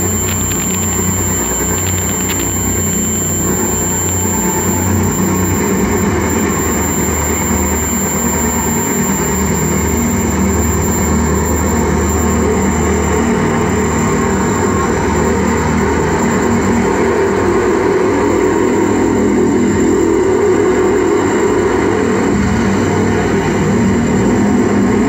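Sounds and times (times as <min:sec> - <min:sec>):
loud wall of noise: 0:00.0 - 0:25.0
low droning hum: 0:00.0 - 0:25.0.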